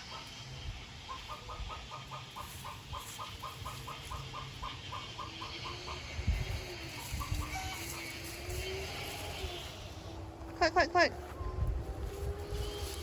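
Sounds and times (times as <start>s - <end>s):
hen clucking: 0.0s - 13.0s.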